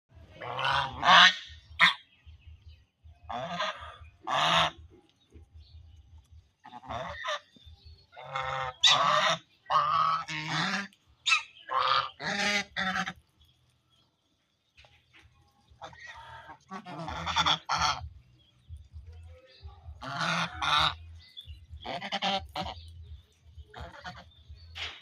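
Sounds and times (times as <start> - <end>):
geese honking: 0.3 - 2.2, 3.3 - 5.1, 6.5 - 13.5, 15.6 - 25.0.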